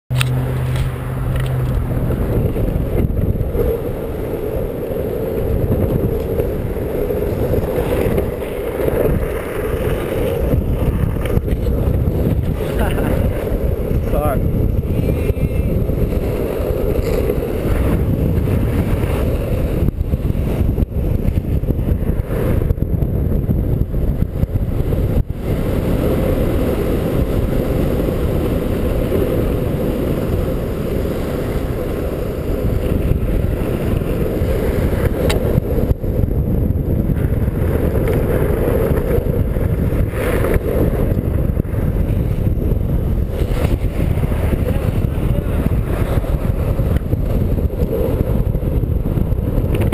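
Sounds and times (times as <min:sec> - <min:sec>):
skateboard wheels rolling on asphalt: 0:00.1 - 0:49.9
wind buffeting microphone: 0:00.1 - 0:49.9.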